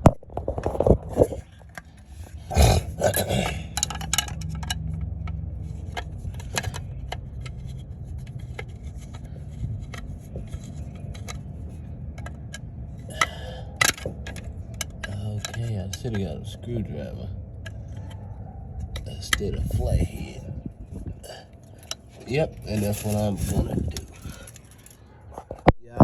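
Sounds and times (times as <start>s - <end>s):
steady low hum: 0.0s - 26.0s
metallic clicks and scrapes: 0.4s - 25.7s.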